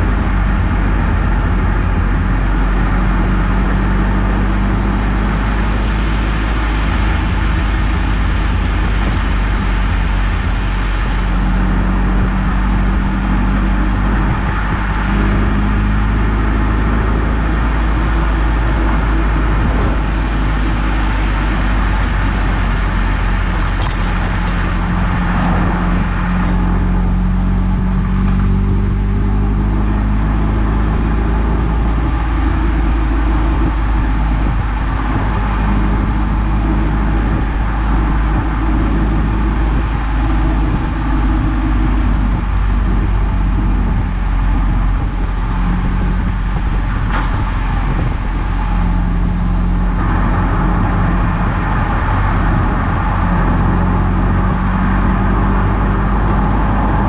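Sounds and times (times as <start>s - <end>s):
car engine hum: 0.0s - 57.0s
road and tyre noise: 0.0s - 57.0s.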